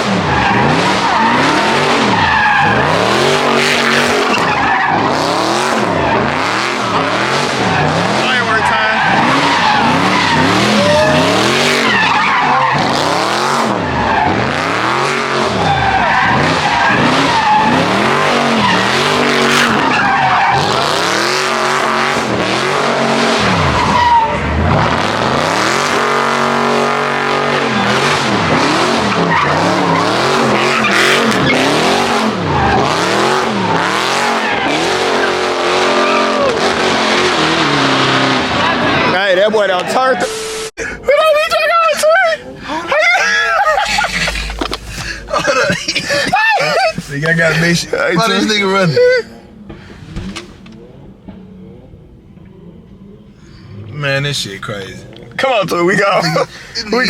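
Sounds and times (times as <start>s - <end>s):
car engine revving: 0.0s - 40.7s, 43.5s - 48.9s
tires squealing: 0.0s - 51.5s.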